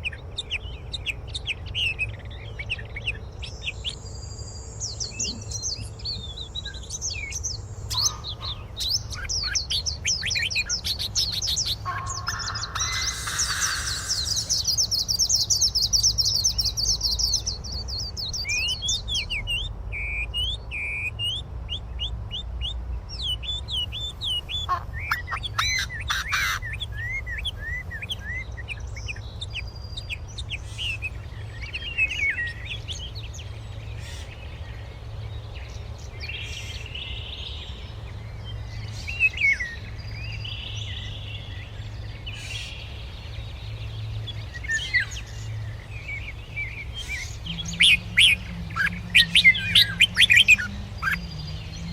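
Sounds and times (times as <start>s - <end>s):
birds chirping and singing: 0.0s - 51.9s
low background rumble: 0.0s - 51.9s.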